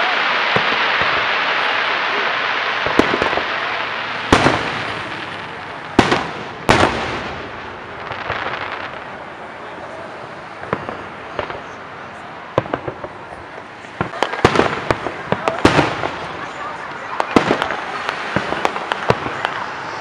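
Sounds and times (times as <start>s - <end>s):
faint fireworks pops: 0.0s - 20.0s
fireworks bangs: 0.0s - 20.0s.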